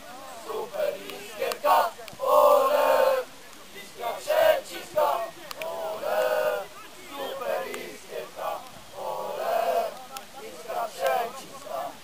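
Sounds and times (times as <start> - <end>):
crowd chanting and shouting: 0.0 - 12.0.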